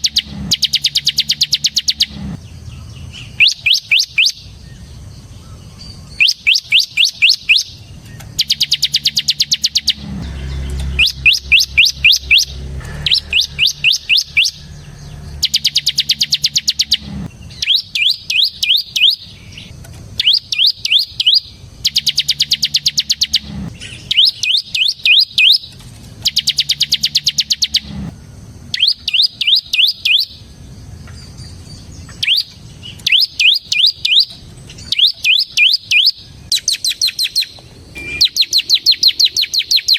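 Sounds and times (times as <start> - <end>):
bird singing drill-like song: 0.0 - 39.9.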